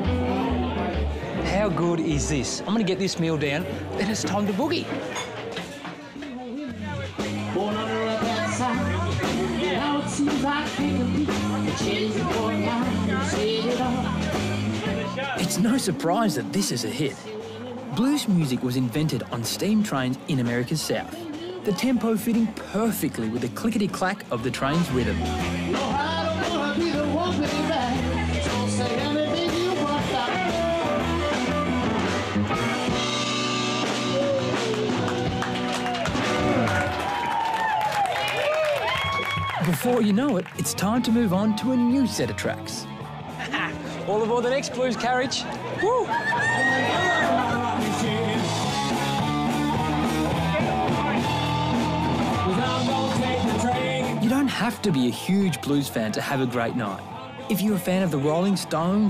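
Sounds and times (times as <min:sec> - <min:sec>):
blues band playing: 0:00.0 - 0:59.0.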